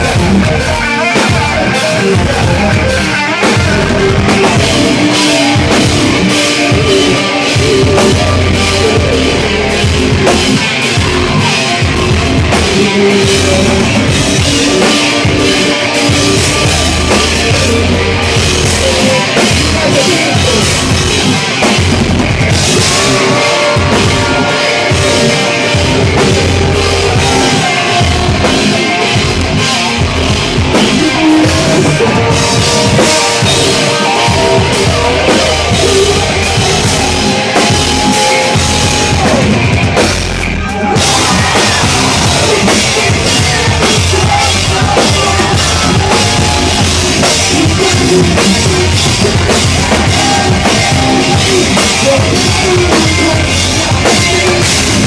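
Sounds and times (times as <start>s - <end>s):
bass guitar: 0.0s - 55.0s
distorted electric guitars: 0.0s - 55.0s
drum kit: 0.0s - 55.0s
person singing: 0.0s - 55.0s.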